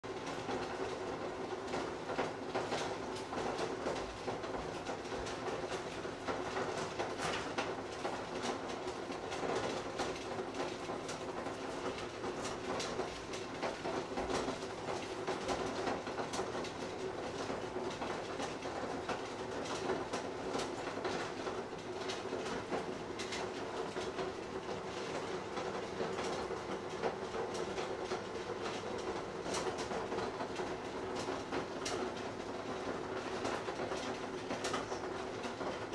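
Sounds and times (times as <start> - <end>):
pots boiling: 0.0 - 35.9.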